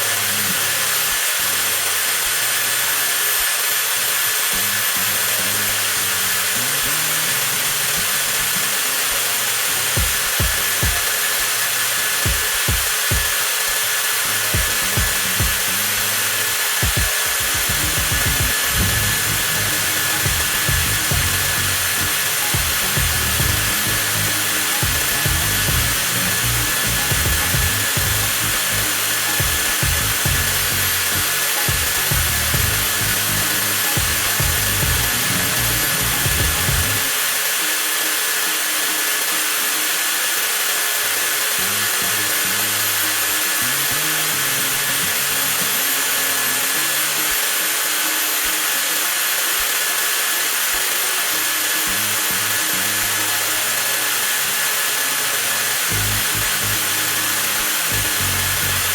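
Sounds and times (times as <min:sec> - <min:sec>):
angle grinder motor whining: 0:00.0 - 0:58.9.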